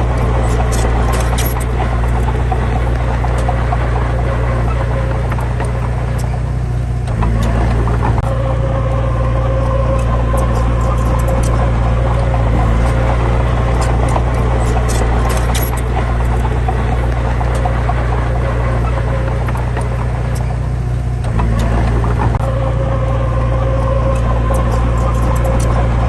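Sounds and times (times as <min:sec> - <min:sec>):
faint high clicks and squeaks: 0:00.0 - 0:26.0
heavy diesel engine running: 0:00.0 - 0:26.0.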